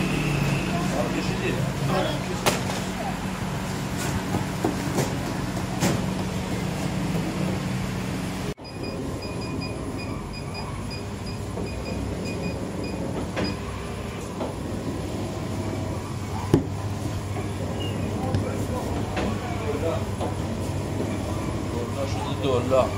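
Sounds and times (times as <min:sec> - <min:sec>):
machine mechanical rumble: 0:02.6 - 0:22.9.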